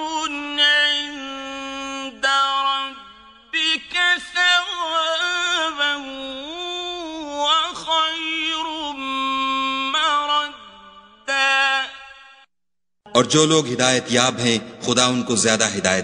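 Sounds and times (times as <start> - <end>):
man chanting melodically: 0.0 - 12.3, 13.1 - 16.0.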